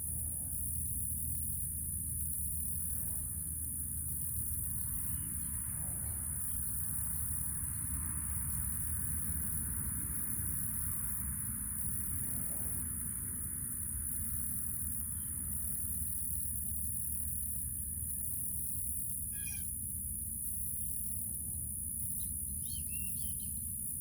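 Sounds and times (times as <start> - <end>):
crickets chirping: 0.0 - 24.0
low steady rumble: 0.0 - 24.0.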